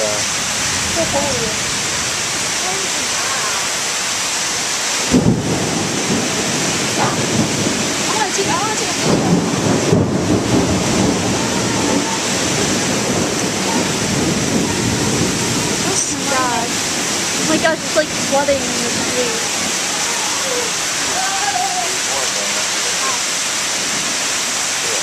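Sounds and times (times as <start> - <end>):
thunder rumbling: 0.0 - 3.7, 5.0 - 21.3
heavy rain pouring: 0.0 - 25.0.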